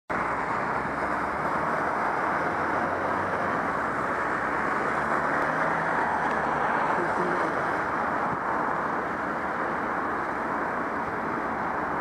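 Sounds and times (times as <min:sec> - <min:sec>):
road noise: 0:00.1 - 0:12.0
rushing wind: 0:00.1 - 0:12.0.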